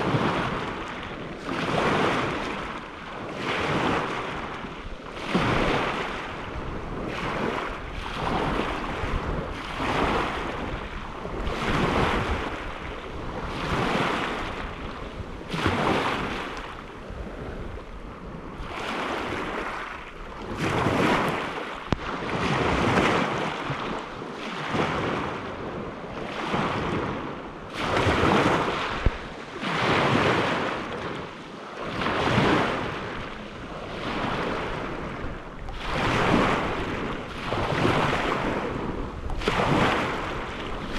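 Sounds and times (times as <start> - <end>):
waves washing on shore: 0.0 - 40.9
wind on microphone: 0.0 - 40.9.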